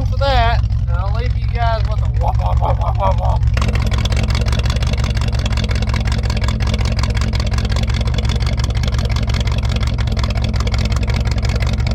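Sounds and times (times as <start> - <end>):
pickup engine idling: 0.0 - 11.9.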